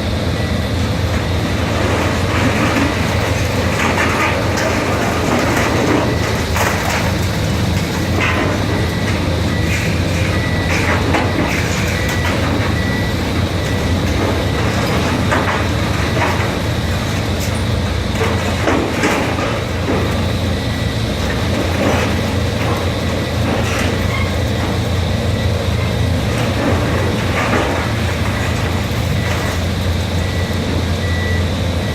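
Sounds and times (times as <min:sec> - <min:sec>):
demolition machinery engine hum: 0:00.0 - 0:31.9
metal and debris clanking: 0:01.1 - 0:30.9.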